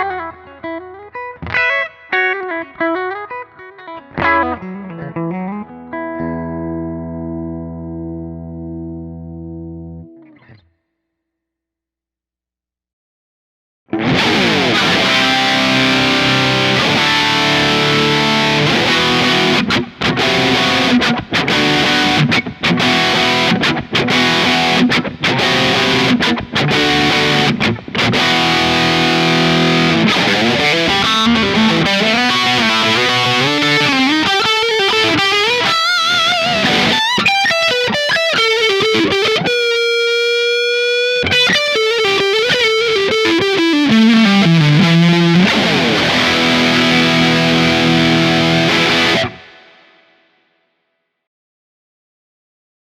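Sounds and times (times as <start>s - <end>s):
distorted electric guitar: 0.0s - 10.7s, 13.9s - 50.1s.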